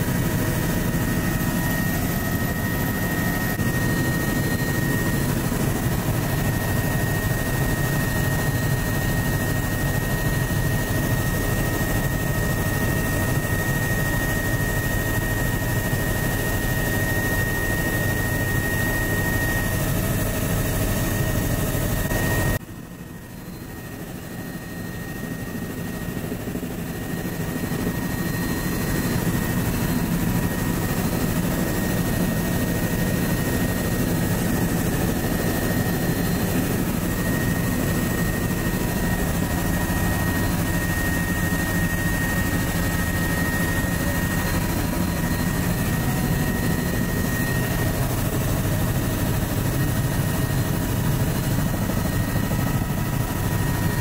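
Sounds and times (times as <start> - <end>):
helicopter rotor and engine din: 0.0 - 54.0.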